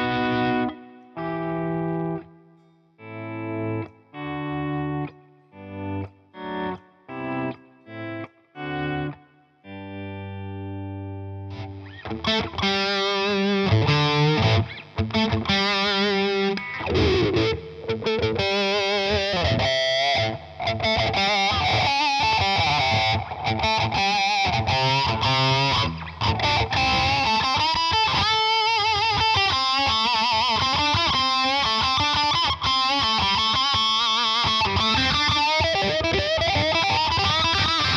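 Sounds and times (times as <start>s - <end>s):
distorted electric guitar with wah: 0.0s - 2.3s, 3.0s - 37.9s.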